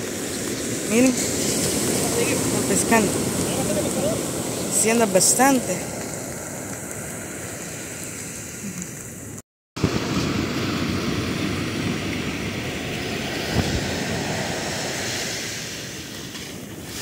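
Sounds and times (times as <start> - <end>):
ocean surf breaking: 0.0 - 17.0
wind rumbling on microphone: 0.0 - 17.0.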